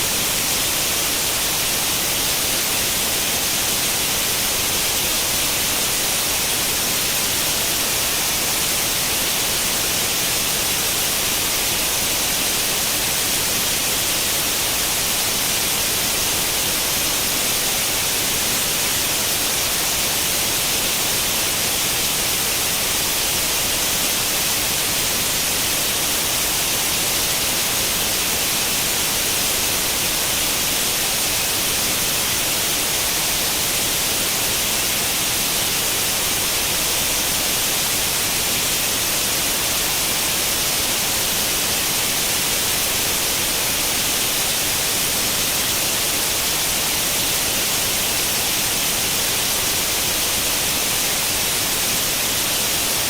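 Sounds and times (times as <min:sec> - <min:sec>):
television static hiss: 0:00.0 - 0:53.0.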